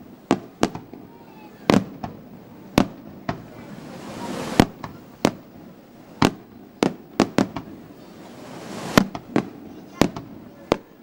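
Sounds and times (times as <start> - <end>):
firework hiss: 0.0 - 11.0
fireworks bursting with sharp bangs: 0.0 - 11.0.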